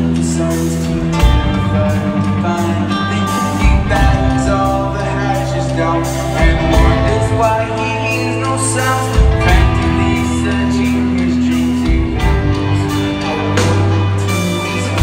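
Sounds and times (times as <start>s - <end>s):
bass guitar: 0.0s - 15.0s
electric guitars: 0.0s - 15.0s
man singing: 0.0s - 15.0s.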